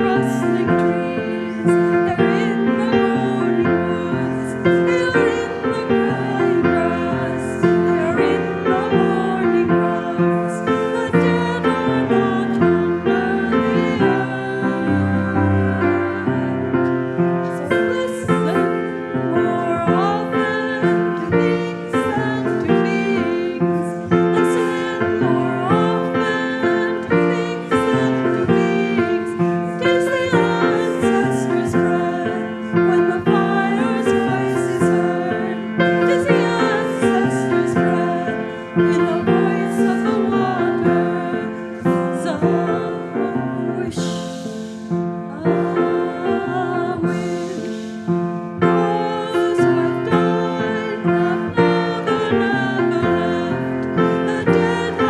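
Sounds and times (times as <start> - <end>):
piano and violin: 0.0 - 55.0
voices singing a hymn: 0.0 - 55.0.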